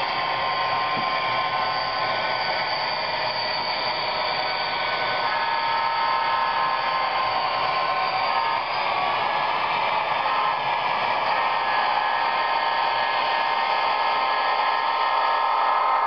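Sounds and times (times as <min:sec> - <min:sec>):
model trains whirring: 0:00.0 - 0:16.0
steady whines: 0:00.0 - 0:16.0.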